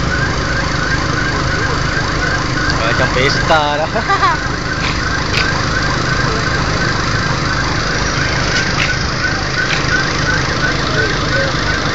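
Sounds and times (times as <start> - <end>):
electronic alarm siren chirping: 0.0 - 11.9.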